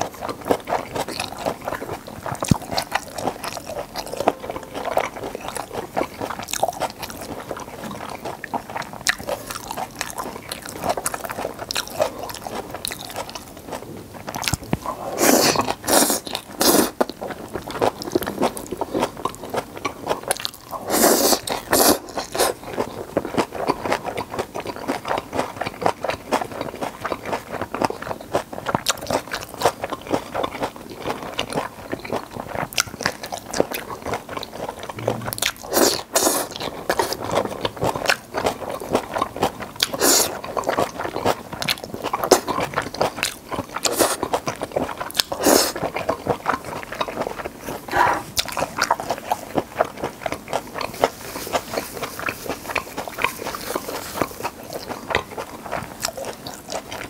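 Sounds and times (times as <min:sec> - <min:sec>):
wet chewing mouth sounds: 0:00.0 - 0:57.0.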